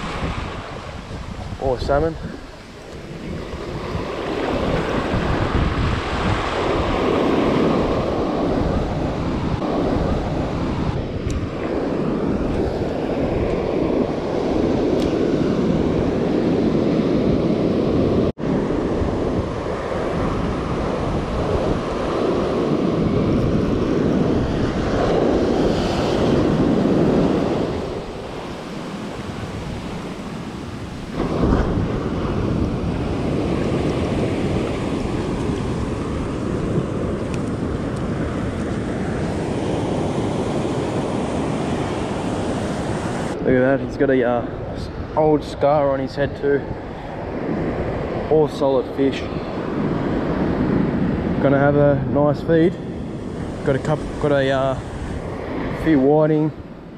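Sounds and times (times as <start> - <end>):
waves washing and lapping: 0.0 - 56.9
wind buffeting microphone: 0.0 - 56.9.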